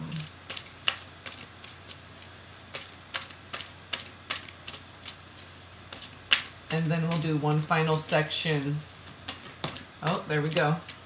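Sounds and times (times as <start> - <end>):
cards being shuffled: 0.0 - 8.1, 8.8 - 11.0.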